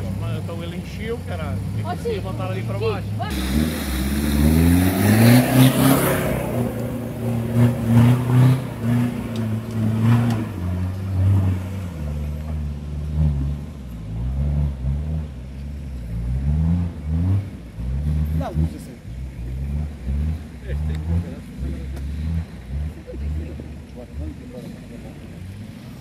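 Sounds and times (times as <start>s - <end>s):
off-road engine revving: 0.0s - 26.0s.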